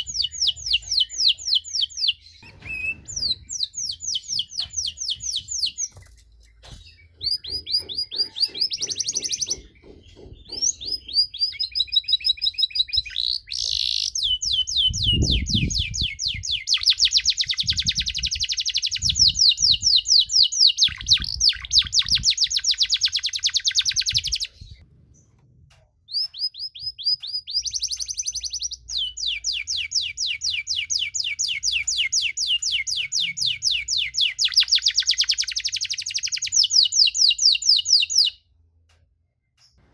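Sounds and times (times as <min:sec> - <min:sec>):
canary singing trills: 0:00.0 - 0:06.0, 0:06.6 - 0:24.8, 0:26.1 - 0:38.4.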